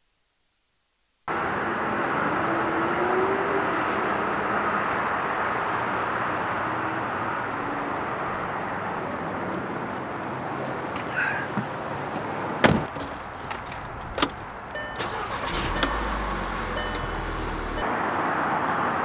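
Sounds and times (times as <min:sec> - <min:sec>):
distant engines humming: 0:01.4 - 0:18.1.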